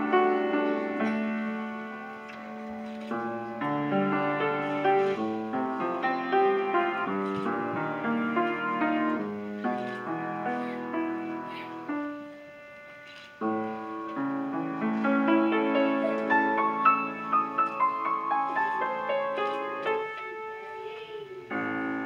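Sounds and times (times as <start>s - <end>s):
classical piano piece: 0.0s - 22.0s.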